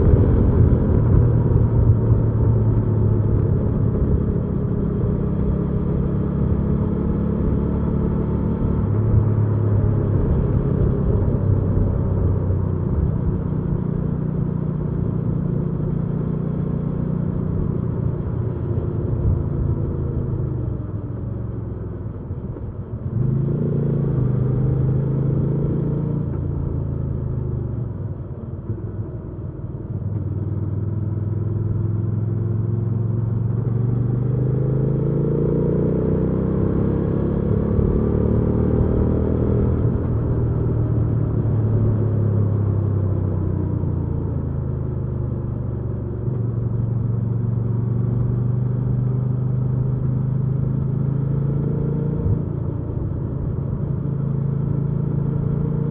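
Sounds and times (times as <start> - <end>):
motorcycle engine accelerating: 0.0 - 22.1, 30.0 - 55.9.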